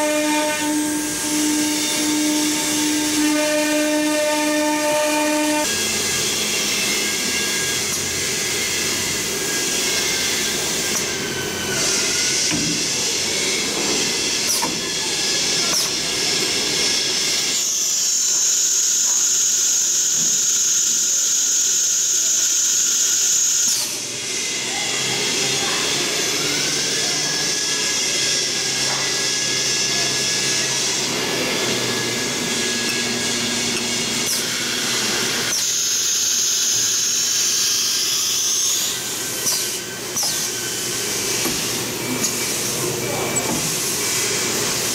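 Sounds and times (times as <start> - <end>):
wood router spindle whine: 0.0 - 44.9.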